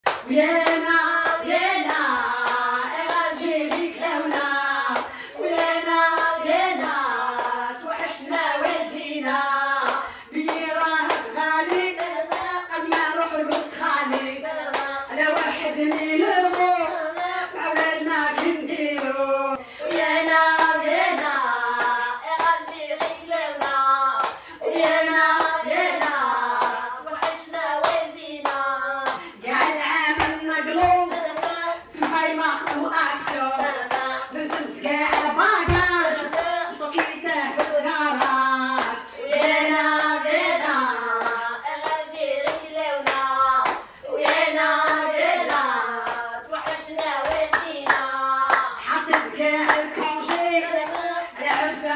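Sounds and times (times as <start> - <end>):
hands clapping in rhythm: 0.0 - 51.9
woman singing: 0.1 - 51.9.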